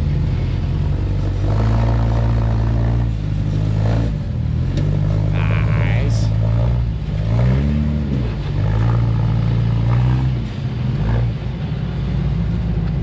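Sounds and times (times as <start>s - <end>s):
buggy engine revving: 0.0s - 13.0s.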